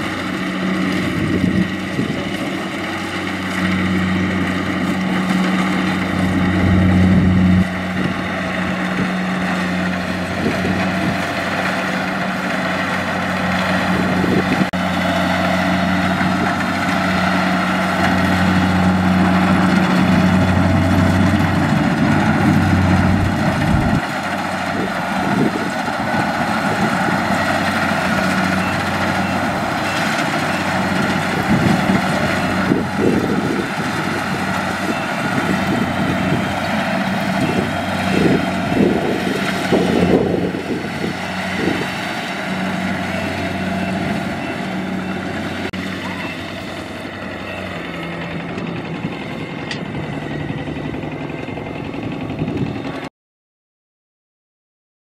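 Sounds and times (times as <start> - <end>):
combine harvester engine hum: 0.0 - 53.1
harvester machinery noise: 0.0 - 53.1.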